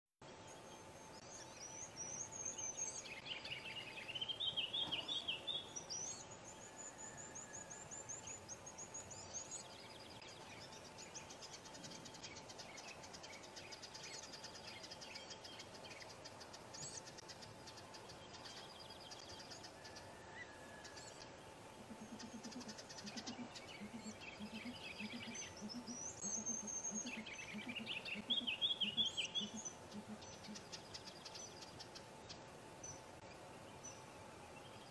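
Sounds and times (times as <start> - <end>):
songbirds trilling and chirping: 0.2 - 34.9.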